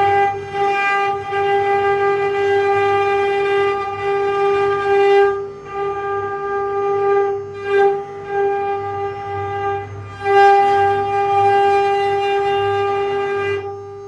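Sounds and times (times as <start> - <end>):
spindle motor high whine: 0.0 - 14.0.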